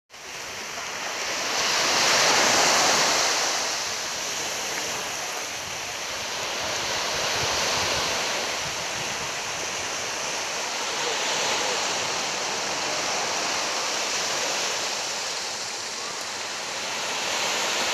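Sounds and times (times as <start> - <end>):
small waves washing on beach: 0.1 - 17.9.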